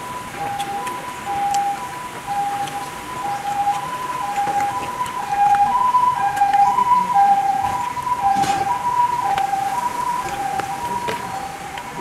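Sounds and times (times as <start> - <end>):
two-tone hi-lo siren: 0.0 - 12.0.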